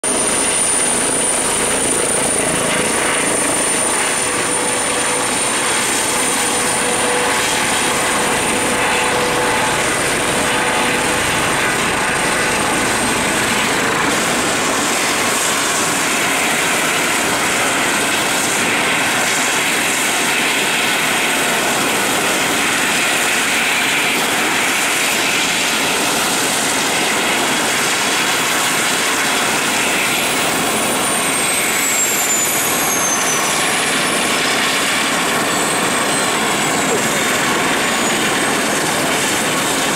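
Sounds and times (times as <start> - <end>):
helicopter engines and rotor: 0.0 - 39.9
high steady whine: 0.0 - 39.9.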